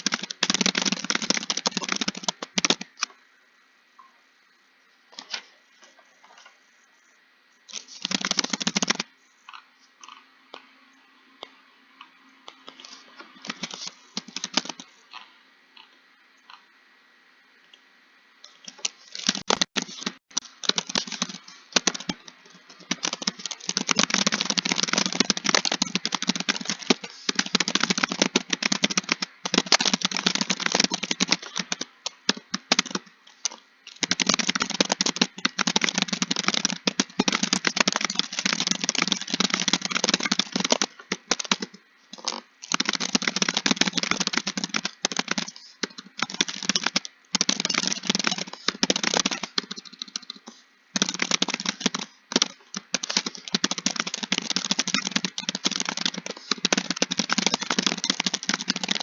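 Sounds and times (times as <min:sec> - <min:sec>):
typing on a keyboard: 0:00.0 - 0:03.1, 0:07.7 - 0:09.1, 0:12.6 - 0:14.9, 0:18.6 - 0:59.0.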